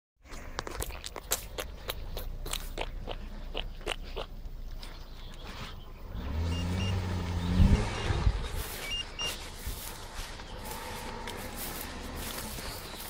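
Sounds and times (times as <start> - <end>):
car engine hum: 0.3 - 13.0.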